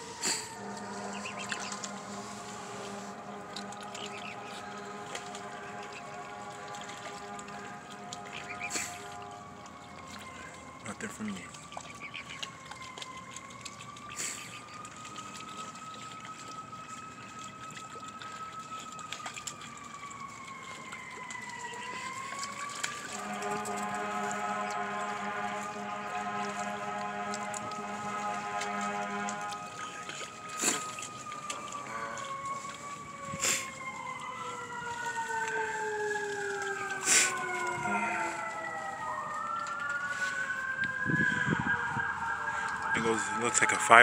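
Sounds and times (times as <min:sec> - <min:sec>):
distant emergency siren: 0:00.0 - 0:44.0.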